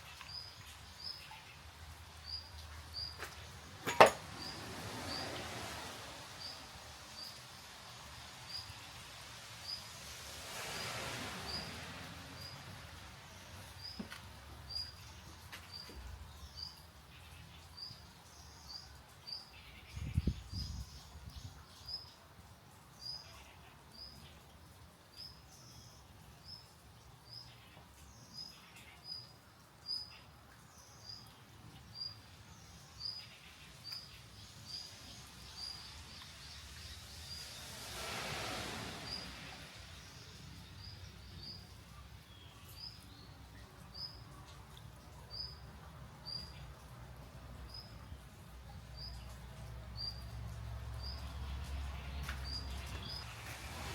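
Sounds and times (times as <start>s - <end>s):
faint steady hiss: 0.0s - 53.9s.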